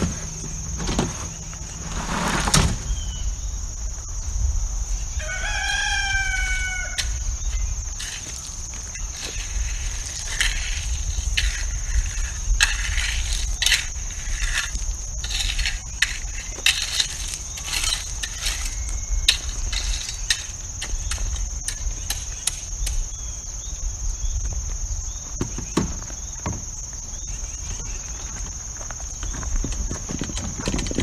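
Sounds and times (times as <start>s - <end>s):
gravel crunching under hand tools: 0.0s - 31.0s
high-pitched insect buzz: 2.9s - 28.3s.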